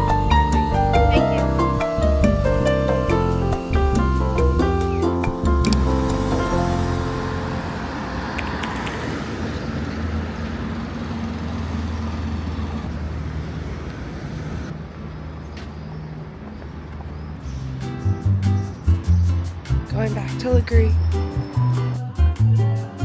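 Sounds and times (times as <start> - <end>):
hiss of passing vehicles: 0.0 - 20.0
low engine hum: 0.0 - 20.3.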